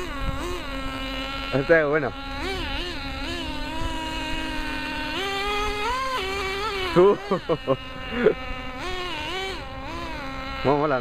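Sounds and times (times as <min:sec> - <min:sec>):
small nitro engine revving: 0:00.0 - 0:11.0.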